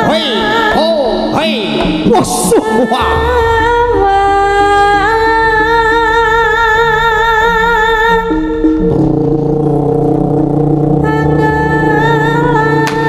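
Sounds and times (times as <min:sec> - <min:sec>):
gamelan music: 0:01.2 - 0:13.0.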